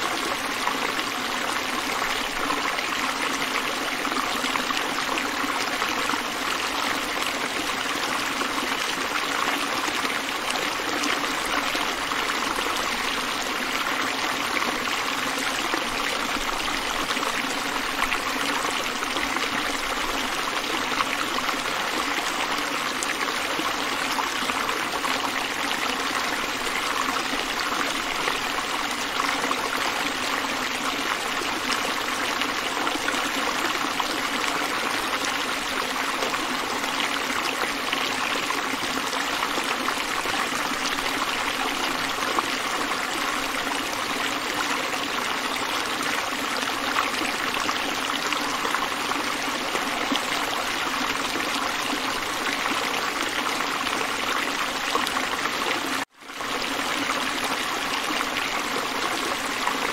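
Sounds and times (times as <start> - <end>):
stream flowing over rock: 0.0 - 59.9.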